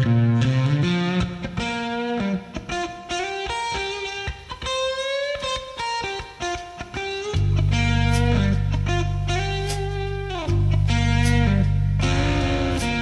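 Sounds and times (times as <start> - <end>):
electric guitar solo: 0.0 - 13.0.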